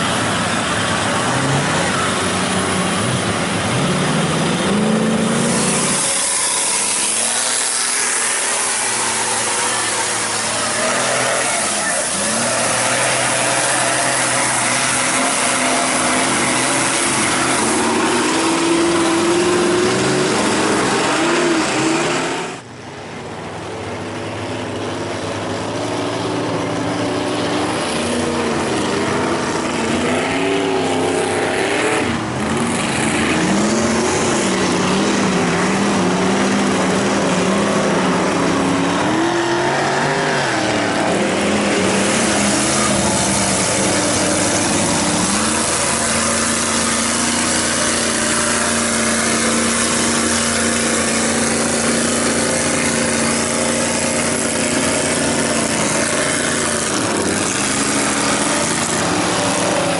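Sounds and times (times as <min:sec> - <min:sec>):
loud rushing noise: 0:00.0 - 0:22.7, 0:24.6 - 0:59.9
truck engine revving hard: 0:00.0 - 0:22.8, 0:24.1 - 0:59.9.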